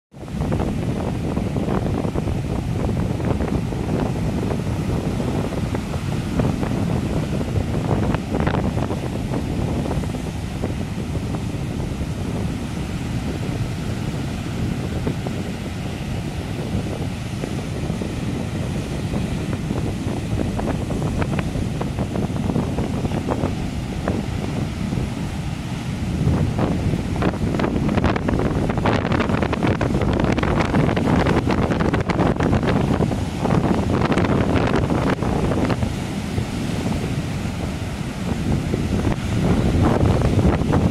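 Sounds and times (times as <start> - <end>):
ocean surf breaking on sand: 0.1 - 40.9
wind buffeting microphone: 0.1 - 40.9.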